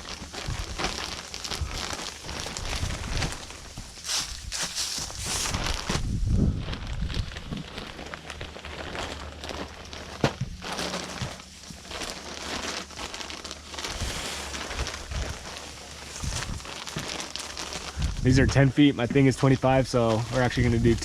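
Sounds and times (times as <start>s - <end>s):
plastic jacket crinkling: 0.0s - 21.0s.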